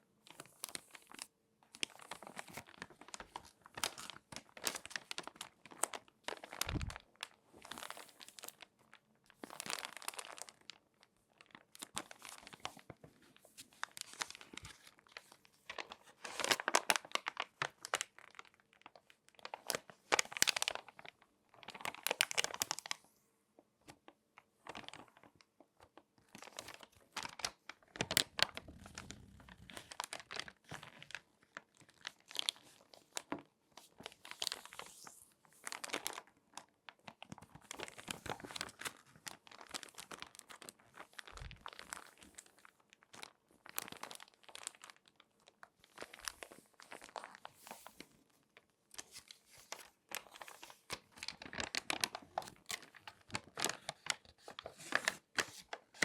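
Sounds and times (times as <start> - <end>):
magazine pages crinkling: 0.4 - 8.7, 11.4 - 23.0, 26.2 - 56.0.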